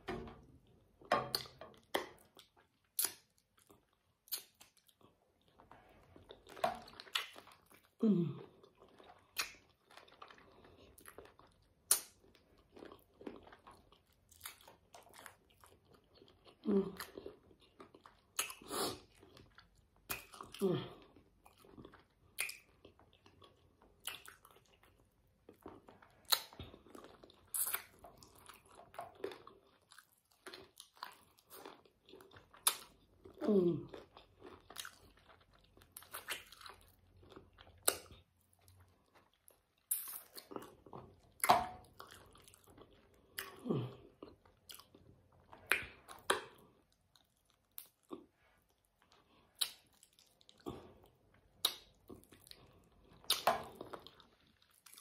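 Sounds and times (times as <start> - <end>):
wet chewing and sucking: 1.1 - 55.0.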